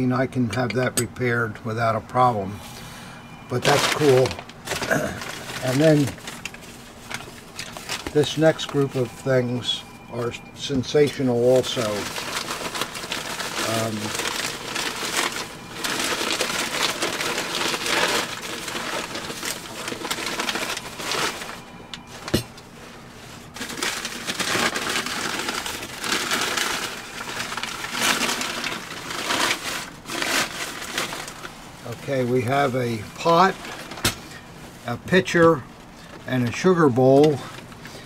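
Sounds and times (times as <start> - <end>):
packing paper crinkling: 3.5 - 38.0.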